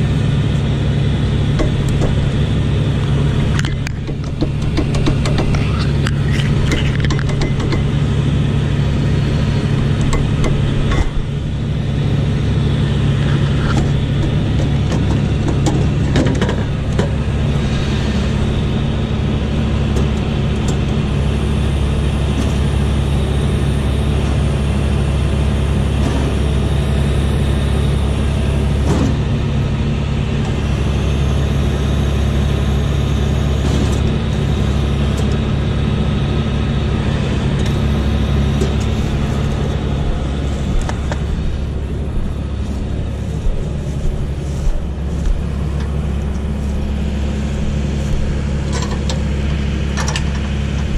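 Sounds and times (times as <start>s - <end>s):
combine harvester engine hum: 0.0s - 50.9s
header machinery clatter: 0.0s - 50.9s.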